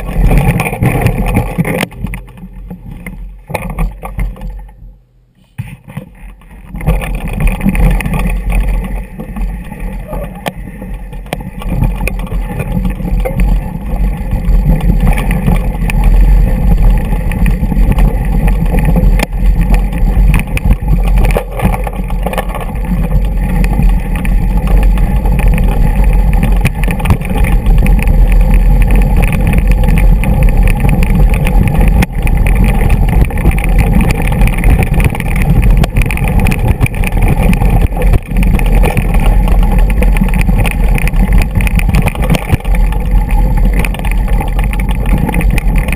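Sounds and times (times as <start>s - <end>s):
bike rattling over rocks: 0.0s - 4.8s, 5.6s - 45.9s
tyres rumbling on loose stones: 0.0s - 4.8s, 5.6s - 45.9s
wind on microphone: 5.6s - 45.9s.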